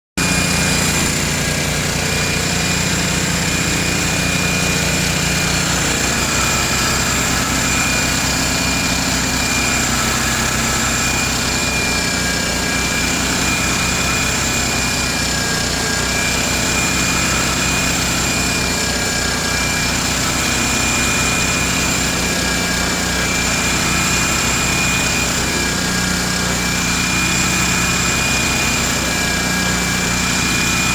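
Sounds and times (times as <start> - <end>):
rail grinder running: 0.2 - 30.9.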